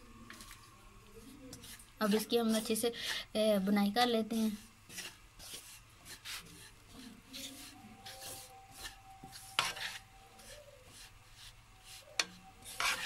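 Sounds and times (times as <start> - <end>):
wooden spatula scraping iron pan: 1.2 - 3.3, 4.5 - 13.0.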